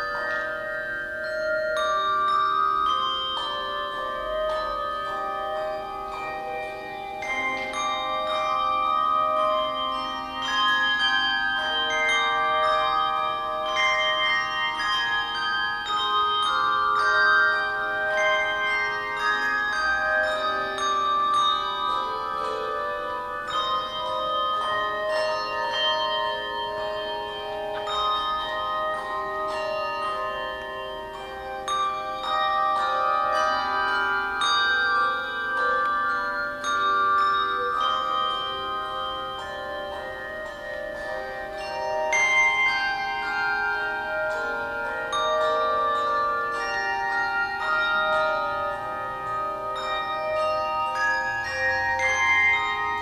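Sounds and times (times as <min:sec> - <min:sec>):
handbell choir ringing chords: 0:00.0 - 0:53.0.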